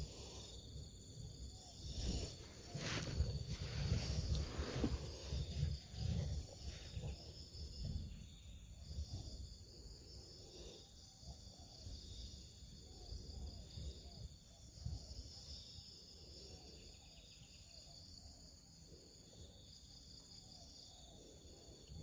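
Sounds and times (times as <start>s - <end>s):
insects calling: 0.0s - 22.0s.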